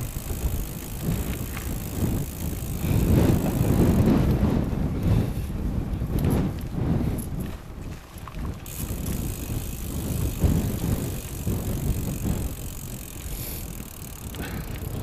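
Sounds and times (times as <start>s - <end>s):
bicycle rolling on rough tarmac: 0.0s - 15.0s
wind buffeting microphone: 0.0s - 15.0s.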